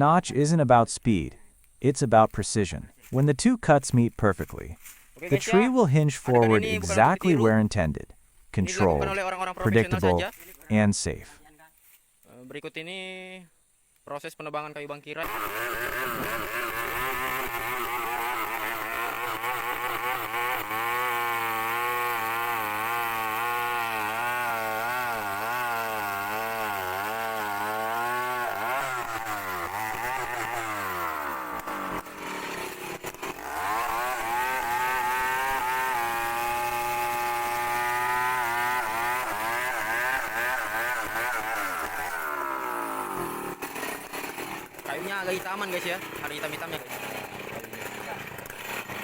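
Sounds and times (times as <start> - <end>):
chainsaw cutting tree trunk: 2.2 - 7.7, 8.6 - 10.4, 15.2 - 49.0.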